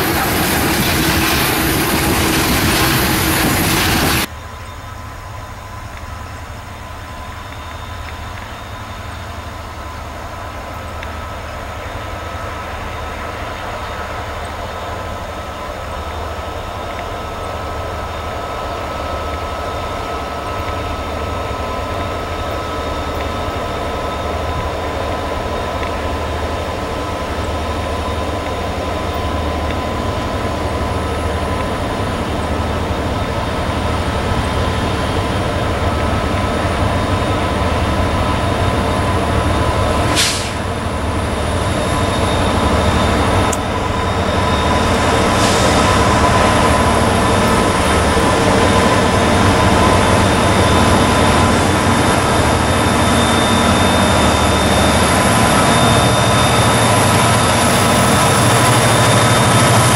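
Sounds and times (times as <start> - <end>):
diesel locomotive engine rumble: 0.0 - 59.9
steady high whine: 0.0 - 59.9.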